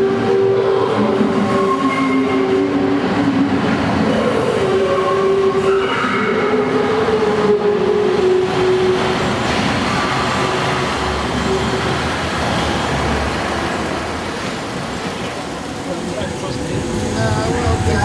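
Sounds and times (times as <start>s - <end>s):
monorail train whining: 0.0s - 18.0s.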